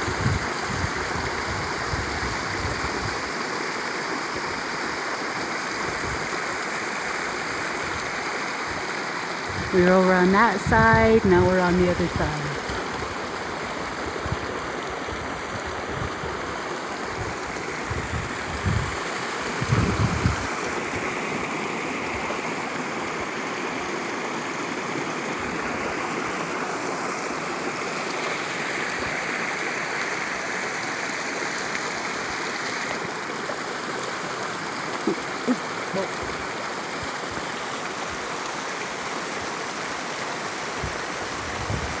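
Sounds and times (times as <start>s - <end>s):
spring water running: 0.0s - 42.0s.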